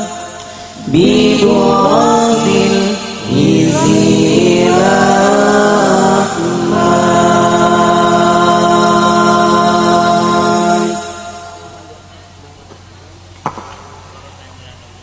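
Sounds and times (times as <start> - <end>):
singers with melismatic vocal: 0.0 - 12.6.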